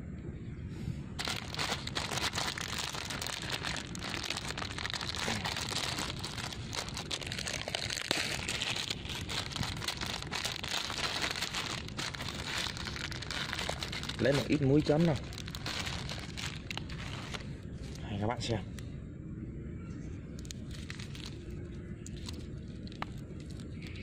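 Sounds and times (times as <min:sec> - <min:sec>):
low rumble: 0:00.0 - 0:24.0
plastic packet crinkling: 0:01.2 - 0:18.0, 0:20.4 - 0:24.0.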